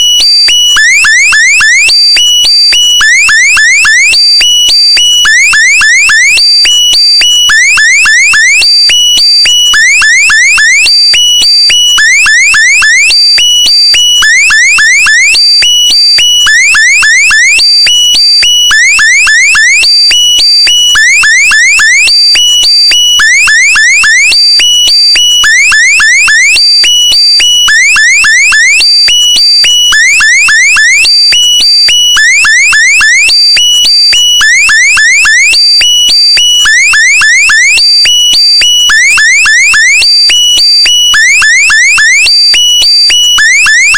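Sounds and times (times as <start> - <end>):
electronic alarm chirps: 0.0 - 43.9.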